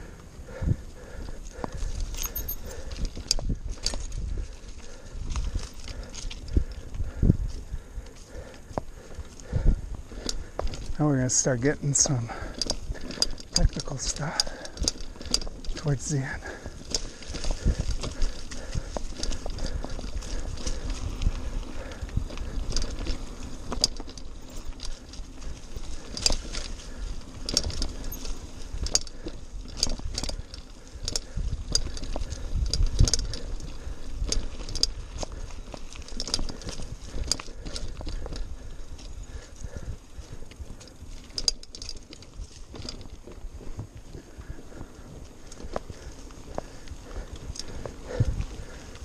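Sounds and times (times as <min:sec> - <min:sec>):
bike chain rattling: 0:00.0 - 0:49.0
bike tyres rumbling on dirt: 0:00.0 - 0:49.0.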